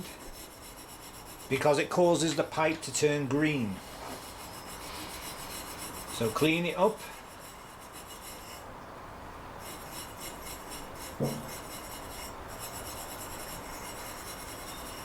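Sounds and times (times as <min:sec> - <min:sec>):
wire wool scrubbing copper pipe: 0:00.0 - 0:08.8, 0:09.4 - 0:15.0.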